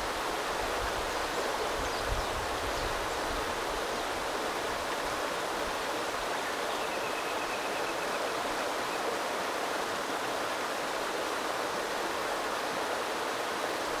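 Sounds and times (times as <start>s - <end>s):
small river flowing: 0.0s - 14.0s.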